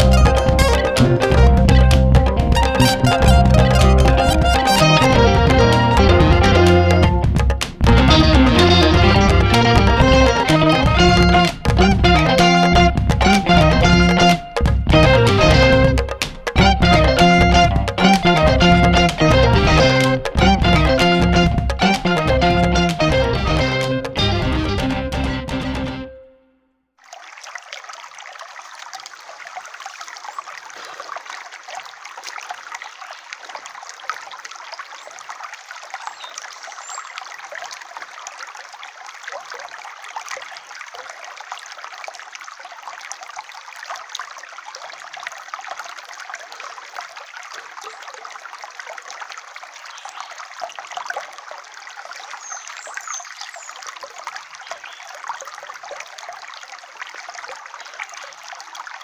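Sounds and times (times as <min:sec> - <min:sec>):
stream trickling over stones: 0:00.0 - 0:22.8, 0:27.0 - 0:59.0.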